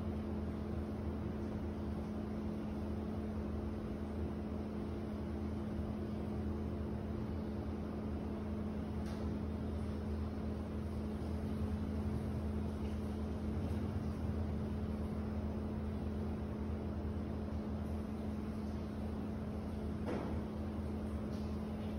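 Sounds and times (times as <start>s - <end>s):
steady mechanical hum: 0.0s - 21.9s.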